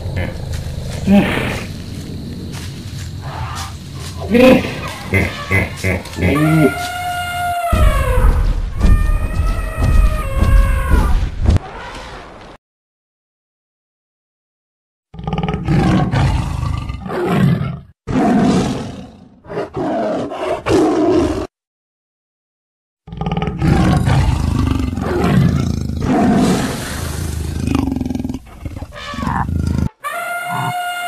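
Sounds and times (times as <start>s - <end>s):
big cats roaring and growling: 0.0s - 11.2s, 15.2s - 21.5s, 23.1s - 31.0s.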